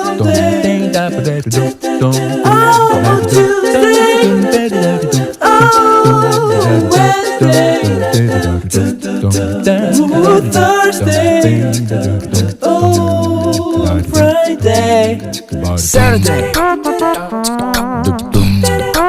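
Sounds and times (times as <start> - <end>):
song with sung melody and beat: 0.0 - 19.0.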